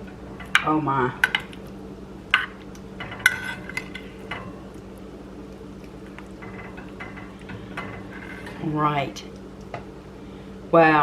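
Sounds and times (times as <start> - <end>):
low hum: 0.0 - 10.8.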